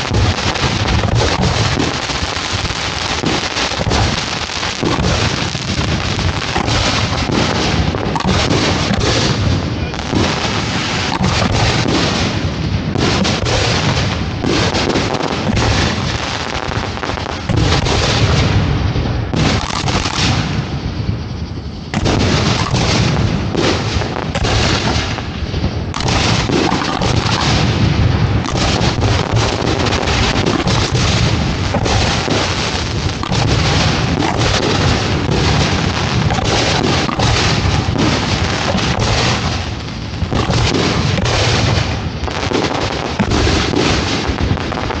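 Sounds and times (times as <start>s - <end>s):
fireworks booms and cracks: 0.0s - 45.0s.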